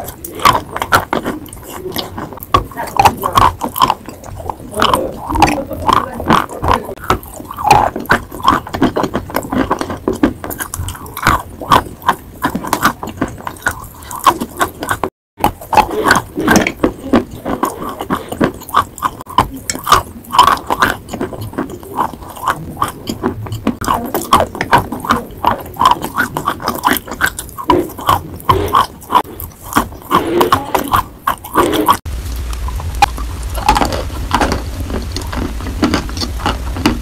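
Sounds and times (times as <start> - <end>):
chewing chalk crunches: 0.0 - 37.0
wet mouth sounds: 0.0 - 37.0.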